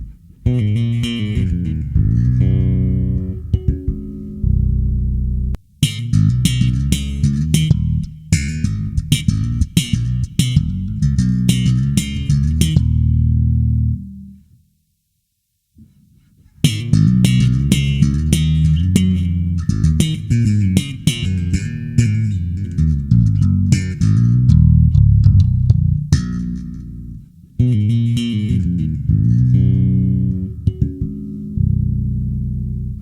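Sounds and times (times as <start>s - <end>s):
electric bass plucked notes: 0.0s - 14.3s, 16.6s - 33.0s.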